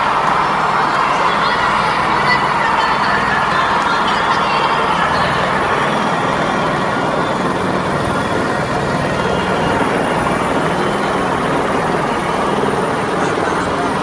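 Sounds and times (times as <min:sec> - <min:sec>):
stadium crowd din: 0:00.0 - 0:14.0.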